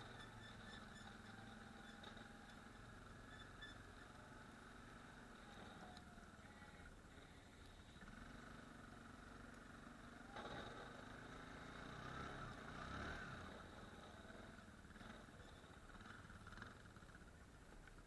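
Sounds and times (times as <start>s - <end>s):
faint atv engine humming: 0.0s - 18.0s.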